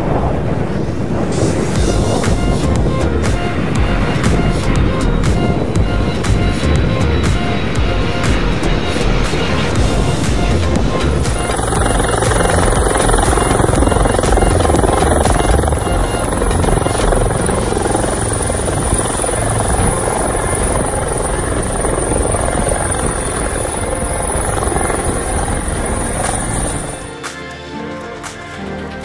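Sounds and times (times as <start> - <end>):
thin steady high whine: 0.0 - 28.8
helicopter hovering overhead: 0.0 - 29.0.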